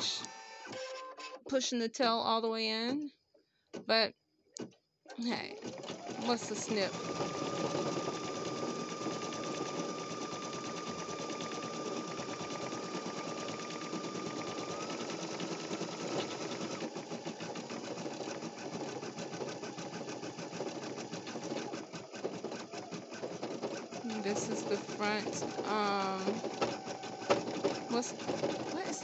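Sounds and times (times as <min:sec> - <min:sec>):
embroidery machine needle chatter: 0:05.2 - 0:29.0
machine whine: 0:05.6 - 0:29.0.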